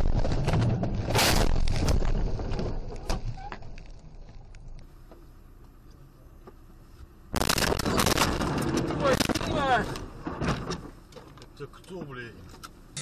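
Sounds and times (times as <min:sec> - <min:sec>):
rumble inside car: 0:00.0 - 0:13.0.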